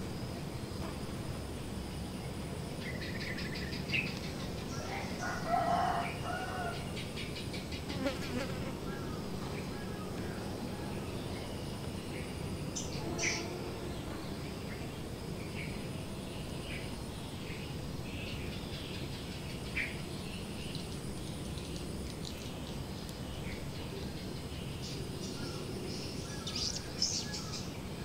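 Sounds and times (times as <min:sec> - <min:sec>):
high insect buzz: 0:00.0 - 0:10.5, 0:11.1 - 0:27.8
low background noise: 0:00.0 - 0:28.0.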